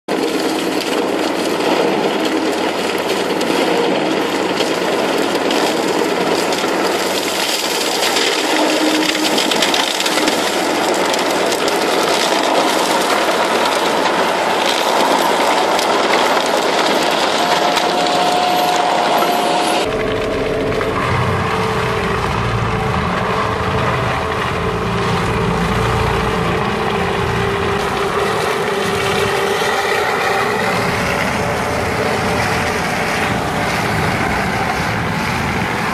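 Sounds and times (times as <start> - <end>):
mulcher engine under load: 0.1 - 35.9
rotor grinding and shredding brush: 0.1 - 35.9
steady pitched whine: 6.4 - 35.9.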